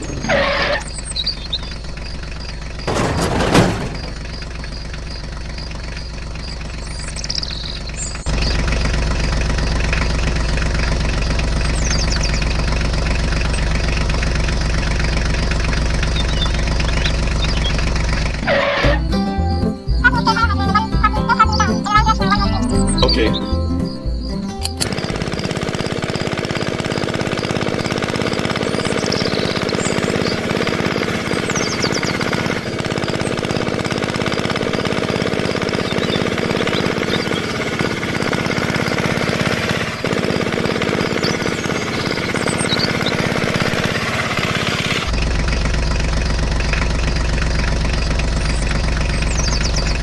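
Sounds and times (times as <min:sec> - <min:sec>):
small engine rattling: 0:00.0 - 0:19.2, 0:24.2 - 0:50.0
deep hum: 0:00.0 - 0:50.0.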